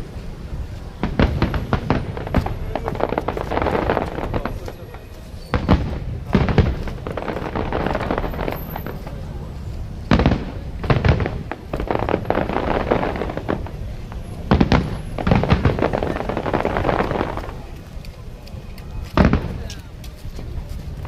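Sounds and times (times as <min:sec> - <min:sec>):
fireworks crackling: 0:00.0 - 0:21.0
fireworks bangs: 0:00.6 - 0:18.0, 0:18.9 - 0:20.6.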